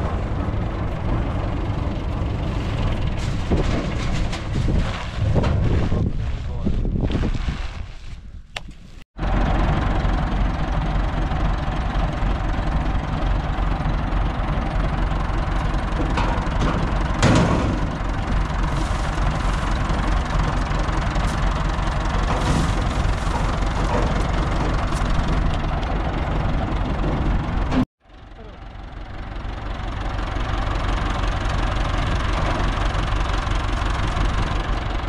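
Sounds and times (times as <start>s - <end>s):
combine harvester rumbling: 0.0s - 7.5s, 9.2s - 35.0s.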